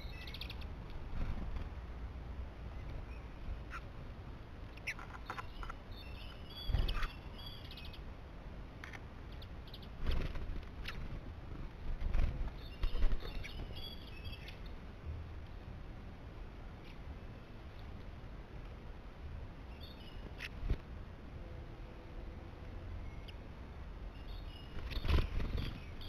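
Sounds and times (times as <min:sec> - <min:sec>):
songbirds chirping: 0:00.0 - 0:01.1, 0:01.9 - 0:26.0.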